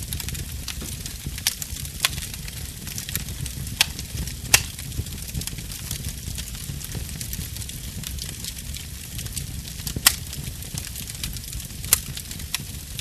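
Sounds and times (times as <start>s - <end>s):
low rush of flame: 0.0s - 13.0s
wood fire crackling: 0.0s - 13.0s.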